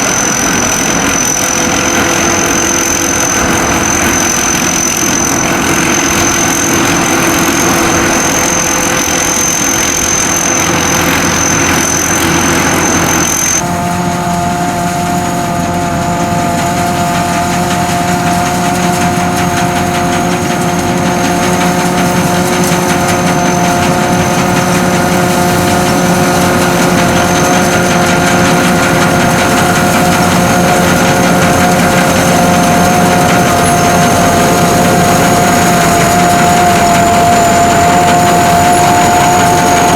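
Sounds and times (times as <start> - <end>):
combine harvester drone with whine: 0.0 - 39.9.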